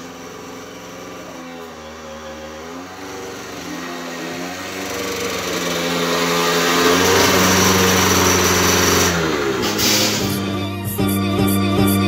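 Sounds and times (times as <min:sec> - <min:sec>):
moped engine running: 0:00.0 - 0:12.0.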